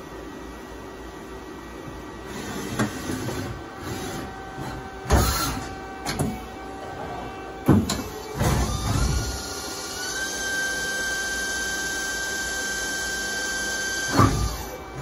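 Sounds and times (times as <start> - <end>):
machine hum: 0.0 - 15.0
servo whirs: 2.2 - 11.7, 12.3 - 15.0.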